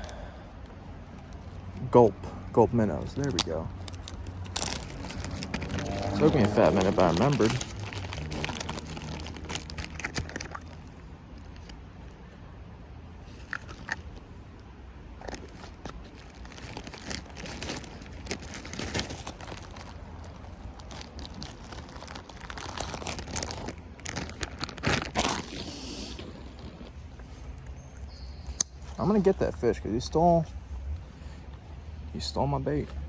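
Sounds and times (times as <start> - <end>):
crunching and crinkling rustles: 0.0 - 33.0.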